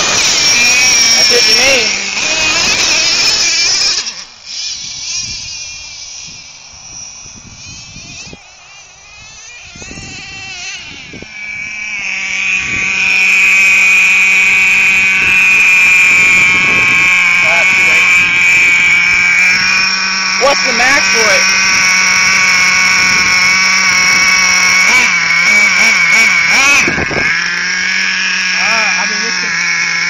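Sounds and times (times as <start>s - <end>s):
small nitro engine whining: 0.0s - 30.0s.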